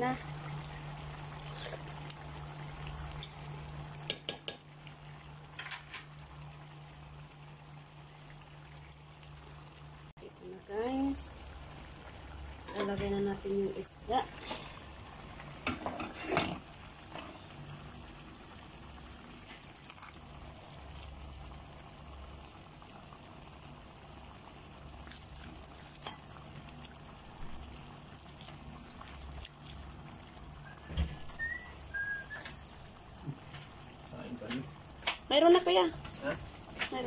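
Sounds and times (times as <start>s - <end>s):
sauce bubbling in a pan: 0.0s - 37.0s.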